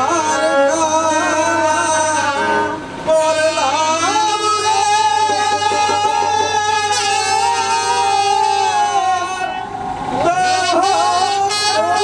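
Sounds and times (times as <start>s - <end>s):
ornamented sliding melody: 0.1s - 12.0s.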